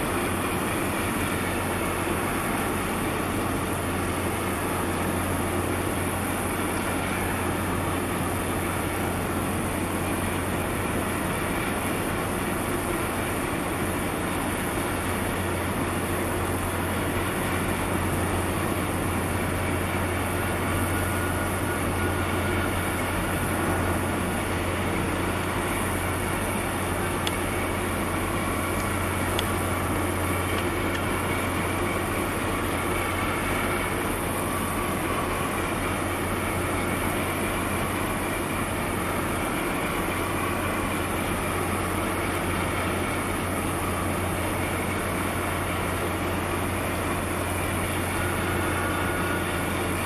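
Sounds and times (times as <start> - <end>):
low drone of ship engines: 0.0 - 50.0.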